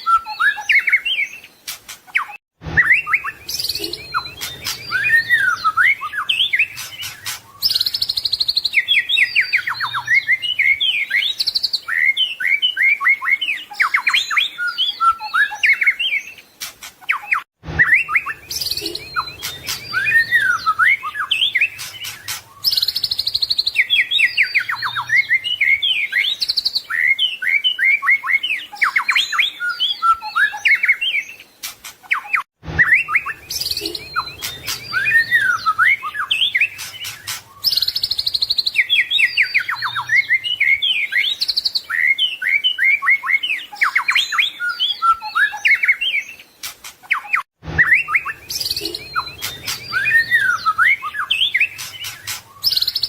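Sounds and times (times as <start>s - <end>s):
songbird singing varied song: 0.0s - 53.0s.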